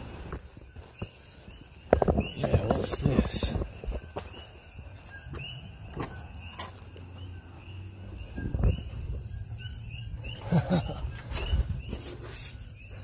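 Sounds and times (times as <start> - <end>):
repeated short chirping calls: 0.5 - 13.0.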